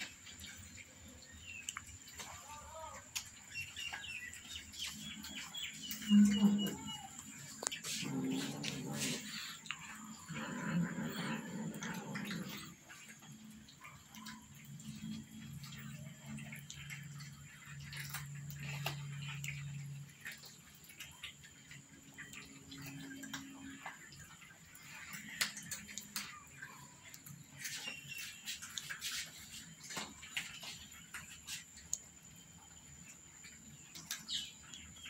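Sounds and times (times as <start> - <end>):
cats chewing food: 0.0 - 35.0.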